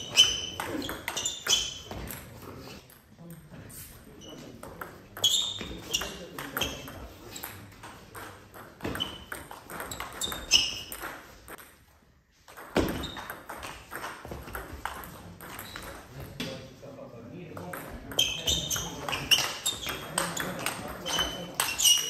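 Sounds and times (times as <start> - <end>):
ping pong ball hits and bounces: 0.0 - 3.5, 4.1 - 16.7, 17.4 - 22.0.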